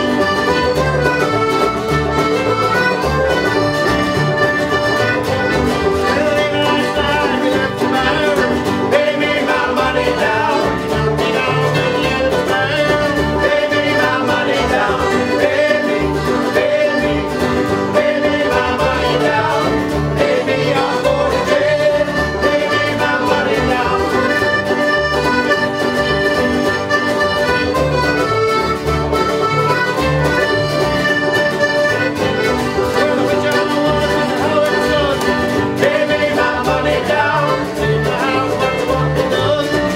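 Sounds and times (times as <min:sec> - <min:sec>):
accordion: 0:00.0 - 0:39.9
folk band music: 0:00.0 - 0:39.9
guitar: 0:00.0 - 0:39.9.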